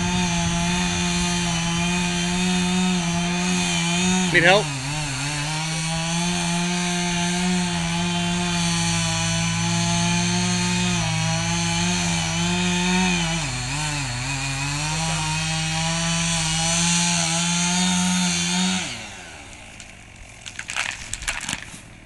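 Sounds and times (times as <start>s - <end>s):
chainsaw cutting a tree: 0.0s - 22.0s.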